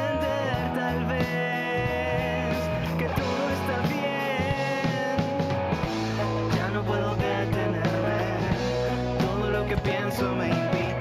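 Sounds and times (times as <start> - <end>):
bass notes: 0.0 - 11.0
electric guitar: 0.0 - 11.0
person singing: 0.0 - 11.0.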